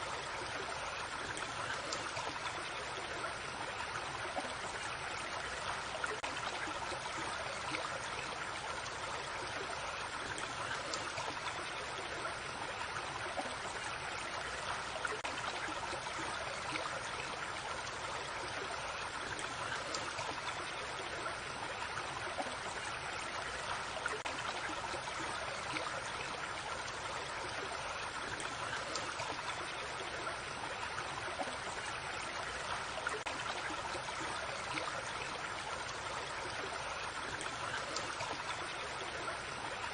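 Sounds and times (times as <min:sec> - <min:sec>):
creek running over stones: 0:00.0 - 0:39.9.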